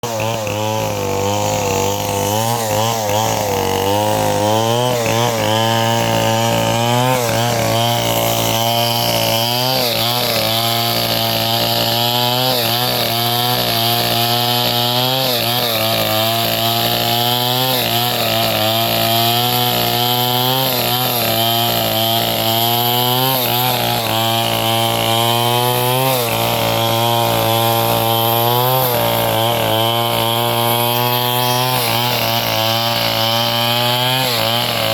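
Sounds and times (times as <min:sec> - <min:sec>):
sawmill engine running: 0:00.0 - 0:34.9.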